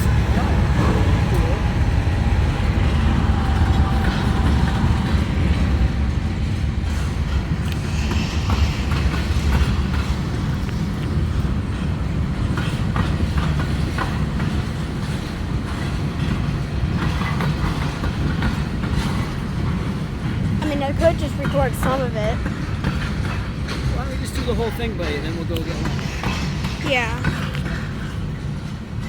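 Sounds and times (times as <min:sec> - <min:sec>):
train cars rumbling past: 0:00.0 - 0:29.0
wheels clicking over rail joints: 0:00.0 - 0:29.0.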